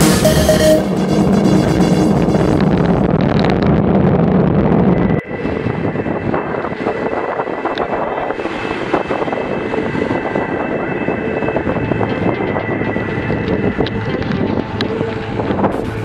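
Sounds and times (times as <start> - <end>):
wind rush on microphone: 0.8 - 16.0.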